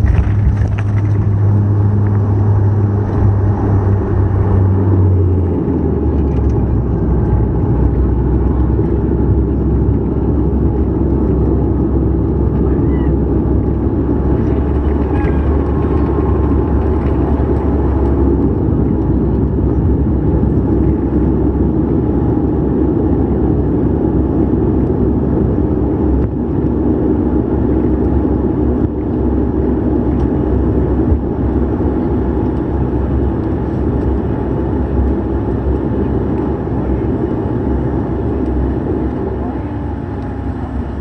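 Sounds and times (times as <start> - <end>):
turboprop engine drone: 0.0 - 41.0.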